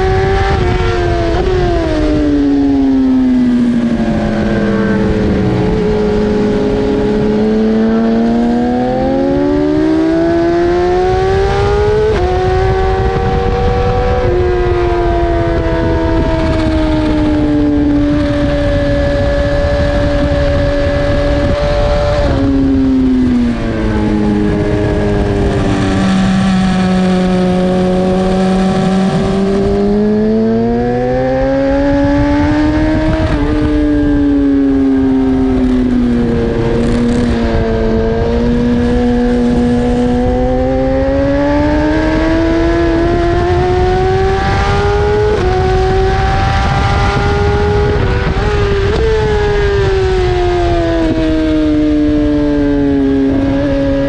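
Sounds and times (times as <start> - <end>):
motorcycle engine racing: 0.0 - 54.0
wind rush: 0.0 - 54.0.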